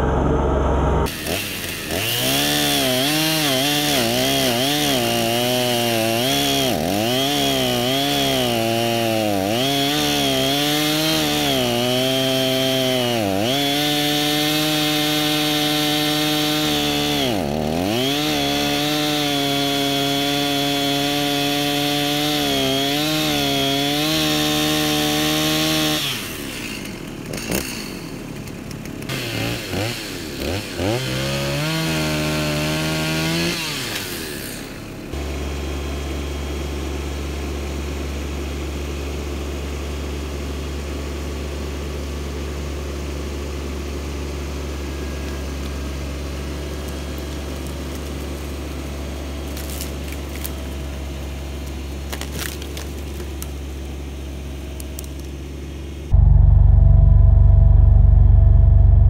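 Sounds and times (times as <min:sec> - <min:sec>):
chainsaw cutting wood: 0:01.0 - 0:41.3, 0:43.0 - 0:55.6.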